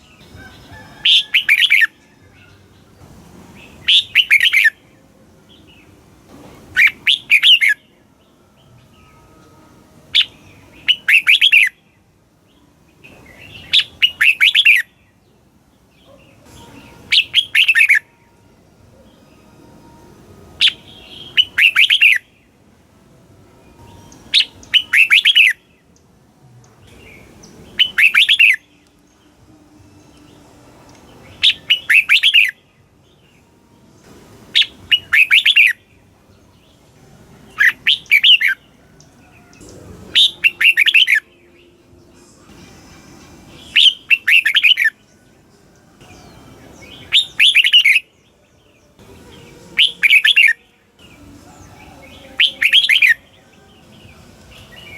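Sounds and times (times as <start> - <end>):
bird singing chirping phrase: 3.6 - 22.7, 23.6 - 26.1, 26.7 - 33.5, 34.5 - 54.9.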